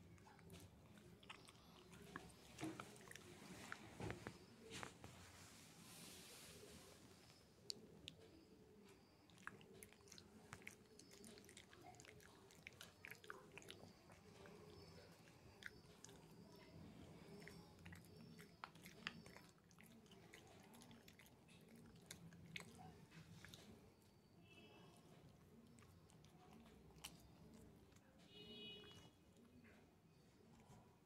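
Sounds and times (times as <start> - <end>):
puppy gnawing a chew stick: 0.0 - 4.9, 7.6 - 24.1, 25.0 - 29.1.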